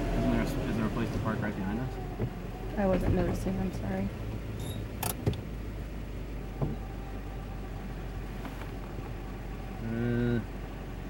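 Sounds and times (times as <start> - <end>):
pickup engine rumbling: 0.0 - 11.0.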